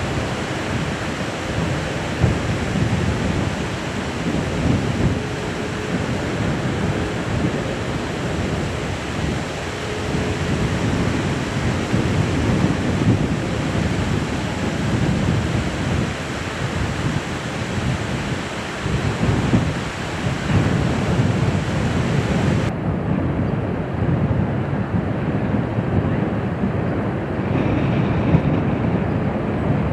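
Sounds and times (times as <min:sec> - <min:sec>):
jet engines rumbling: 0:00.0 - 0:29.9
wind on microphone: 0:00.0 - 0:29.9.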